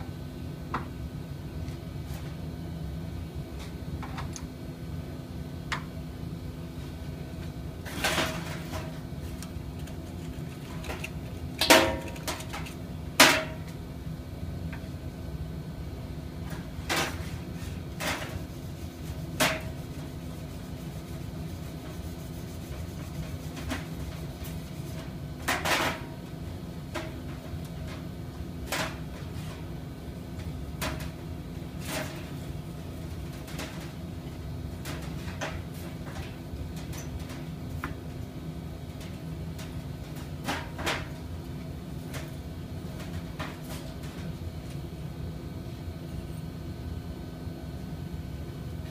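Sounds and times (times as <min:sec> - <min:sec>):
machinery hum: 0:00.0 - 0:48.9.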